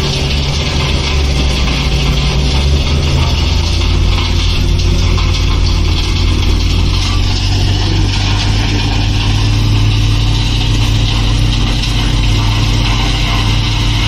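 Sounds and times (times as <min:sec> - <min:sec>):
diesel truck engine humming: 0:00.0 - 0:14.0.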